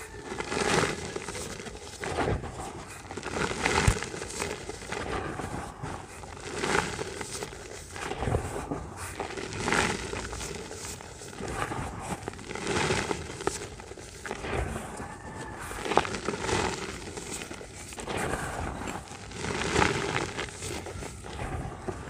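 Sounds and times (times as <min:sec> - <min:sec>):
gritty pieces pattering: 0:00.0 - 0:22.0
wet dirt crunching in hands: 0:00.0 - 0:22.0.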